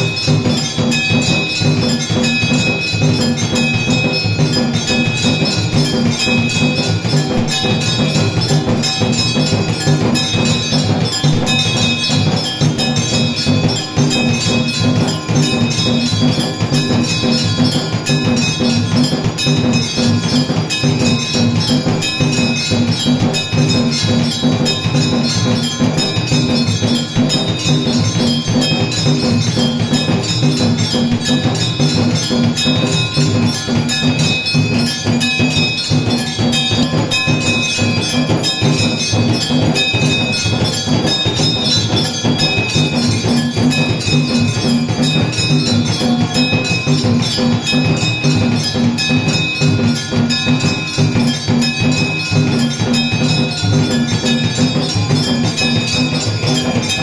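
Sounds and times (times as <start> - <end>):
rapid percussion: 0.0 - 57.0
temple bells clanging: 0.0 - 57.0.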